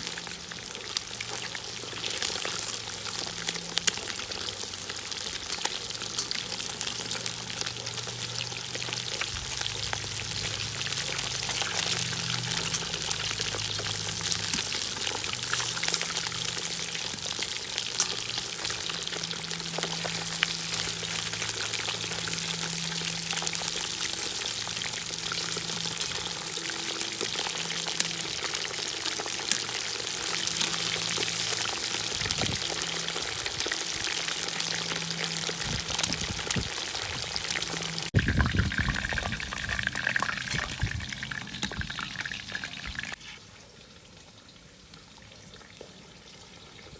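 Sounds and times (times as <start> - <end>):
food sizzling in hot oil: 0.0 - 44.2.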